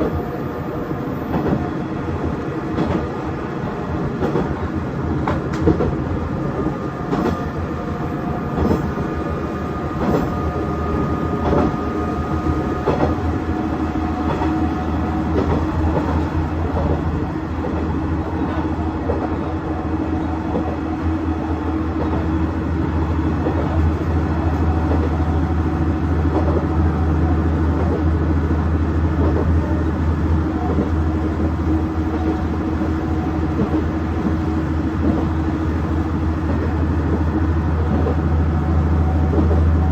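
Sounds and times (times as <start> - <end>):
diesel railcar engine hum: 0.0 - 39.9.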